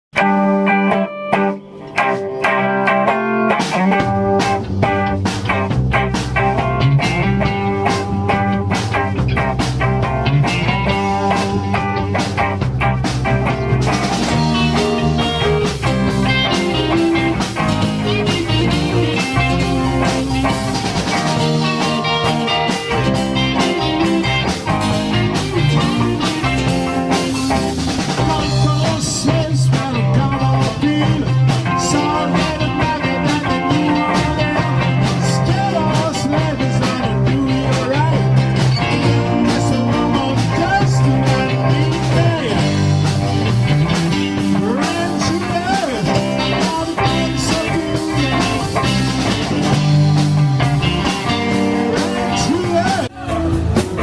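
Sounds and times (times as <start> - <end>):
rock music with electric guitar: 0.1 - 54.0
steady drum beat: 1.4 - 54.0.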